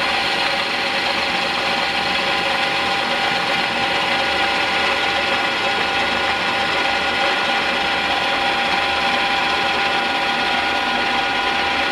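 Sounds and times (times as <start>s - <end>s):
metal lathe whirring: 0.0s - 11.9s.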